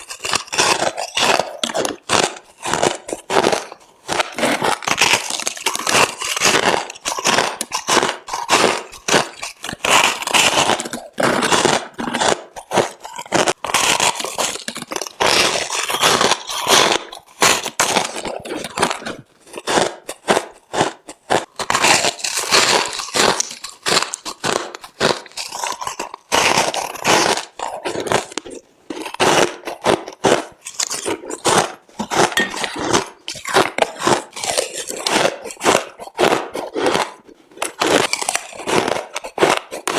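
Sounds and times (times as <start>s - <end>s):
crushed ice being chewed: 0.0s - 39.9s.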